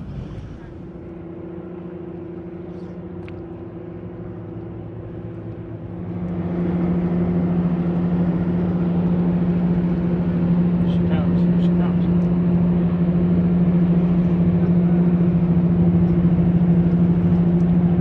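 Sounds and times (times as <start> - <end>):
steady engine hum: 0.0 - 18.0.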